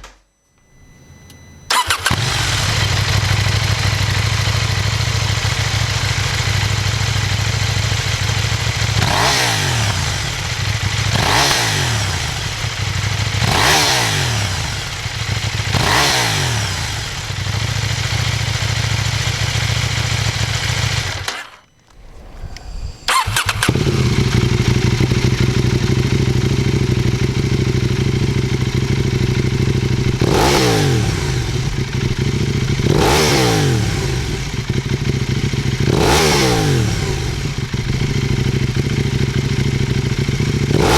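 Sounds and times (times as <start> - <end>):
engine throttle blips: 0.0 - 40.9
motorcycle engine idling: 1.7 - 21.5, 23.1 - 40.9.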